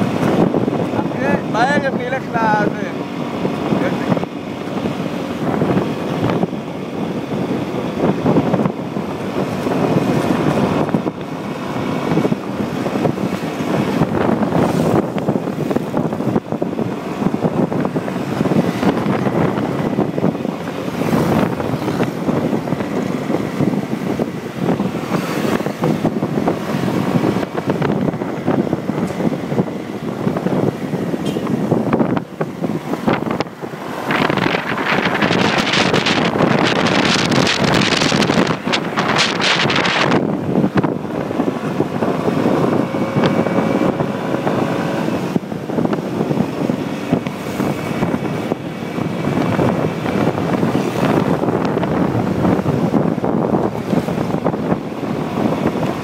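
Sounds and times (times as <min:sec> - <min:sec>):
motorcycle running: 0:00.0 - 0:56.0
road noise: 0:00.0 - 0:56.0
wind rushing over microphone: 0:00.0 - 0:56.0.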